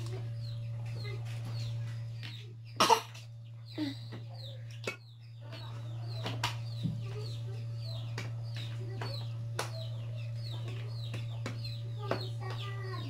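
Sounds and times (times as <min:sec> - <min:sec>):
chickens clucking: 0:00.0 - 0:13.0
chicks peeping: 0:00.0 - 0:13.0
steady low hum: 0:00.0 - 0:13.0.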